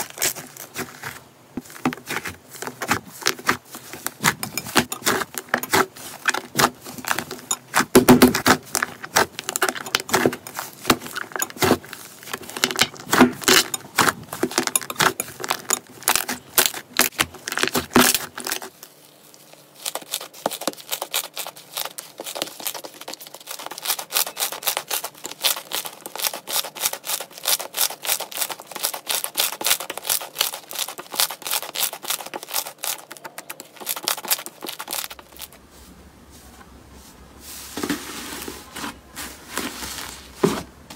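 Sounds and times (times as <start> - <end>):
slime clicking and crackling: 1.6 - 35.6.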